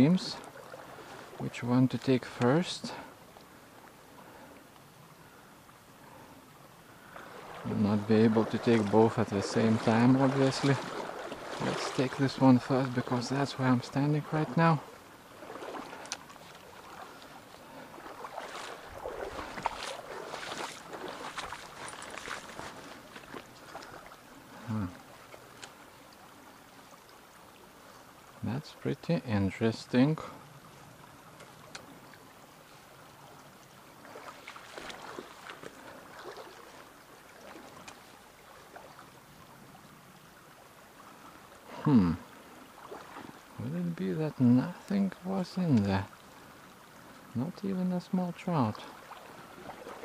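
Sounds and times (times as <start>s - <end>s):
person wading through water: 0.0s - 28.4s, 30.2s - 47.4s, 48.4s - 50.0s
stream current running: 0.0s - 50.0s.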